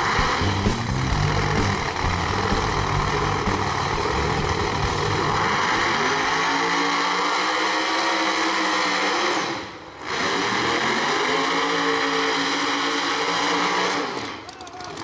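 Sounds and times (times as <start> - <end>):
drag car engine at high revs: 0.0 - 15.0.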